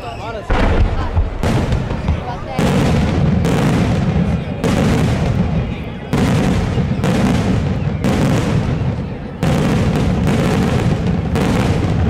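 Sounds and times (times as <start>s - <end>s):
firework shells booming: 0.4s - 12.0s.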